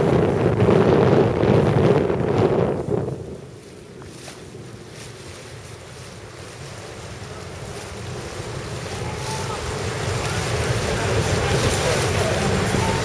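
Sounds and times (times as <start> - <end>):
choppy water against hull: 0.0 - 13.0
wind buffeting microphone: 0.0 - 13.0.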